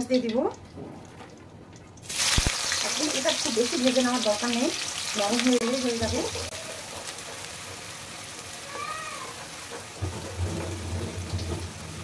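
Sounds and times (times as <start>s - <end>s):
onions sizzling in hot oil: 2.0s - 12.0s.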